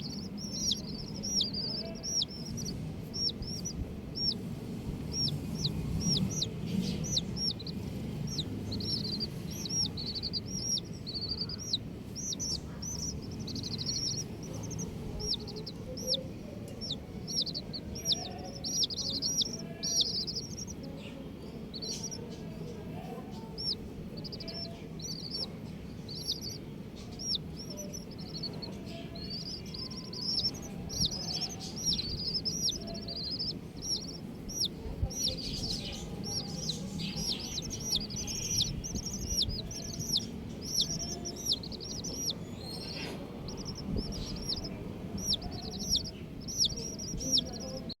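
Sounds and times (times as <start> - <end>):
baby chicks peeping: 0.0 - 48.0
low background rumble: 0.0 - 48.0.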